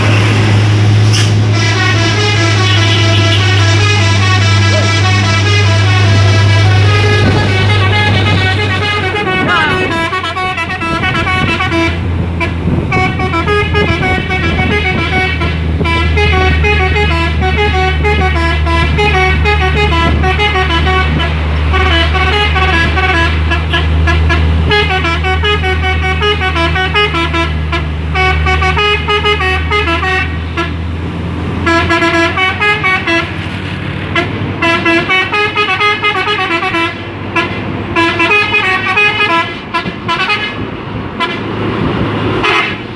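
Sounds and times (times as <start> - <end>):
diesel engine running: 0.0 - 42.9
multi-tone truck horn jingle: 0.0 - 42.9.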